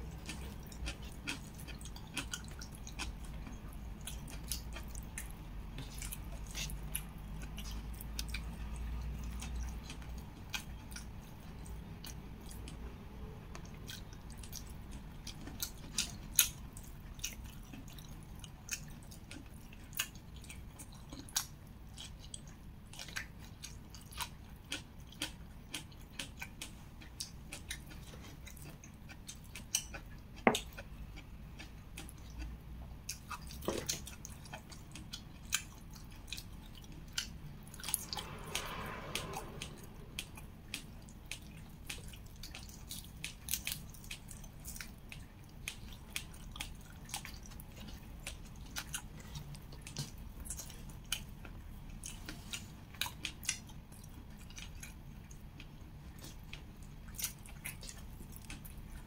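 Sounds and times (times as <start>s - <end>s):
chewing and mouth smacks: 0.1s - 12.9s, 13.6s - 38.3s, 39.2s - 59.0s.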